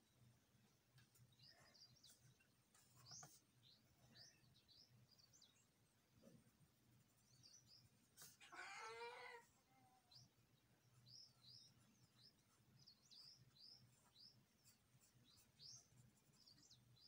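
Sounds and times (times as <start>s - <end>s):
faint bird chirps: 1.0s - 17.0s.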